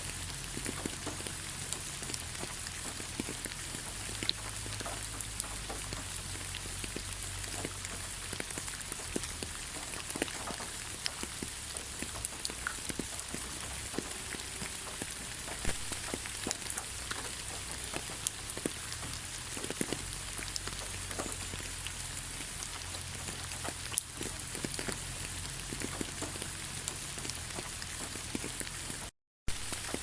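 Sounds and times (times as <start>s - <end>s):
raindrops ticking: 0.0s - 30.0s
steady rain hiss: 0.0s - 30.0s.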